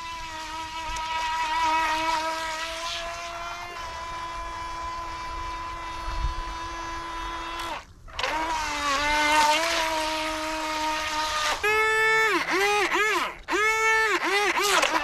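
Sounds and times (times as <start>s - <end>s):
electric boat motor whining: 0.0s - 15.0s.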